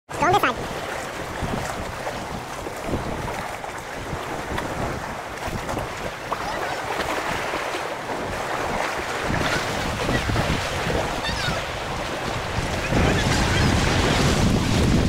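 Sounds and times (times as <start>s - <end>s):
water splashing against pilings: 0.1s - 15.0s
wind buffeting microphone: 0.1s - 15.0s.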